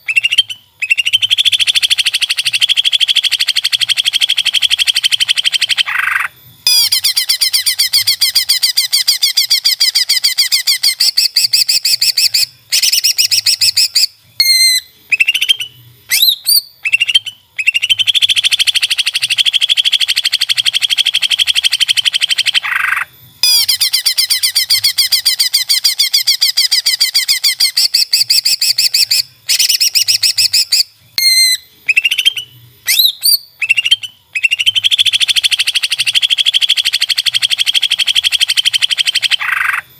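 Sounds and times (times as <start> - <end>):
bird whistled chirps: 0.0 - 39.9.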